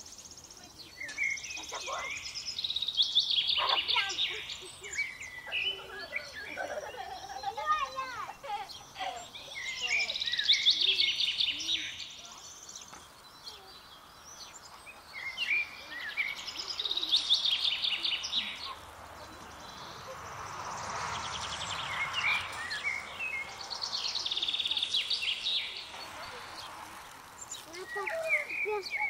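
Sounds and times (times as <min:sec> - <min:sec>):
songbird trilling and chirping: 0:00.0 - 0:29.0.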